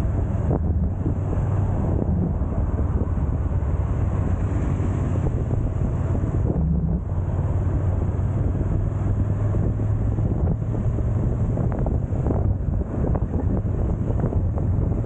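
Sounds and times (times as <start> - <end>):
motorcycle engine drone: 0.0 - 15.0
wind buffeting microphone: 0.0 - 15.0.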